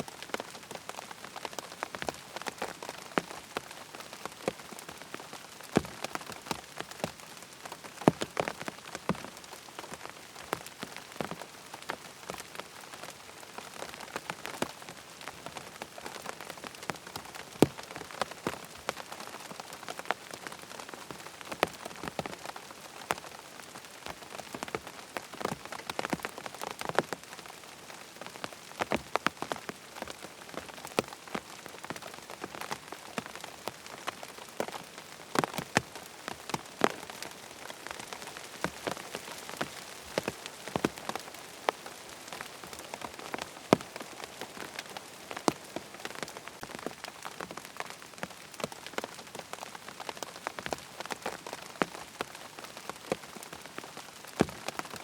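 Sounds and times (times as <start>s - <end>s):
rain falling on a tent: 0.0s - 55.0s.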